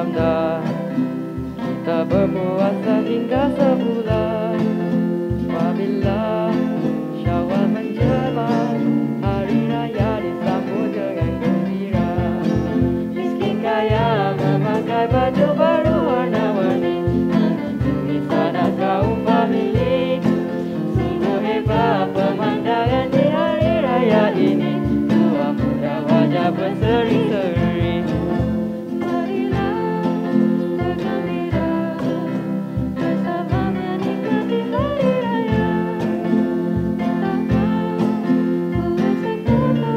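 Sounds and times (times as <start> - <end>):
acoustic guitar: 0.0 - 39.9
cajon beat: 0.0 - 39.9
keyboard: 0.0 - 39.9
person singing into microphone: 0.0 - 39.9.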